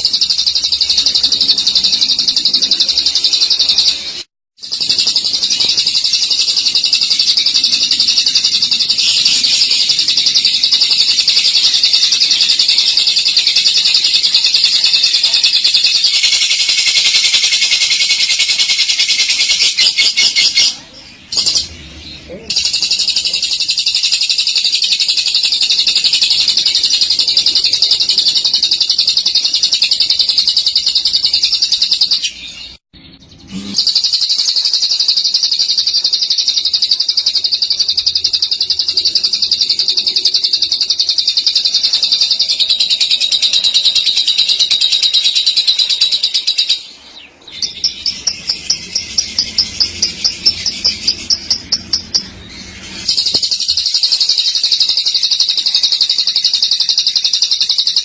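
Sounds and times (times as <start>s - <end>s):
lovebird chattering trill: 0.0s - 32.8s, 33.4s - 58.0s.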